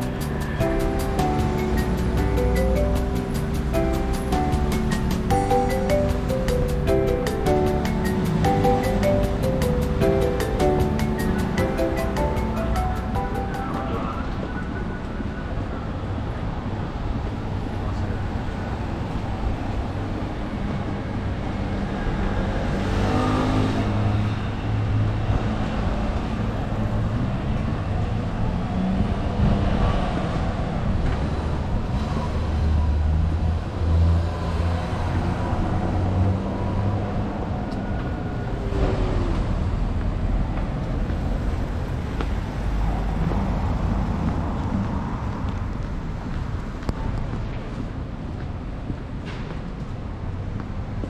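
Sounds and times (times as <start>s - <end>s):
cars passing by: 0.0s - 51.0s
traffic rumble: 0.0s - 51.0s.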